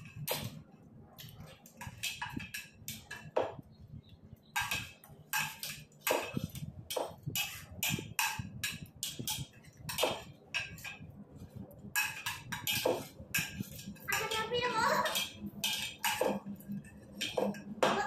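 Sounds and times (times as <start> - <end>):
spoons scraping on ceramic plates: 1.2 - 18.0.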